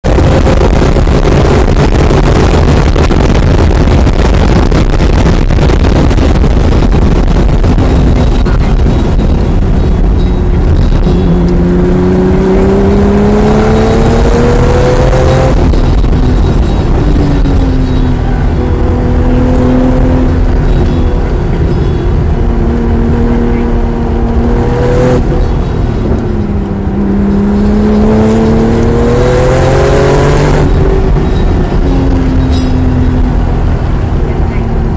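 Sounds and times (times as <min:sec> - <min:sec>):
car engine accelerating: 0:00.0 - 0:34.9
wind and road noise: 0:00.0 - 0:34.9.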